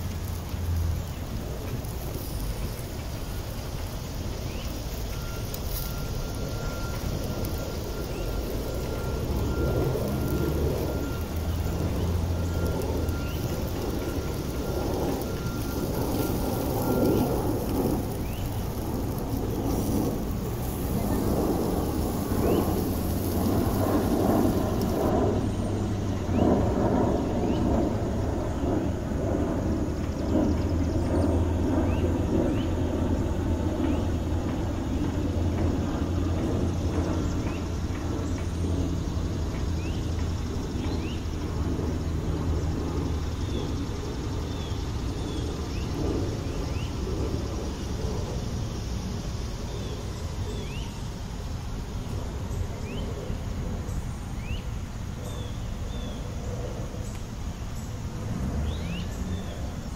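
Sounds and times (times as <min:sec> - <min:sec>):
low engine-like rumble: 0:00.0 - 0:59.9.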